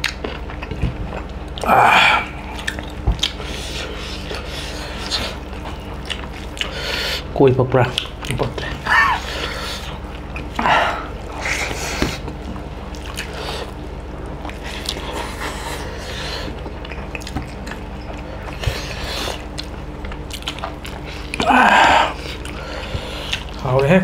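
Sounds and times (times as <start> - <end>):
chewing and lip-smacking: 0.0 - 1.7, 2.3 - 21.5, 22.1 - 23.6.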